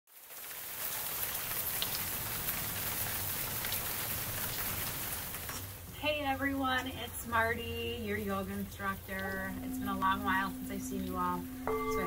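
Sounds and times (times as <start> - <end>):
steady rain falling: 0.1 - 12.0.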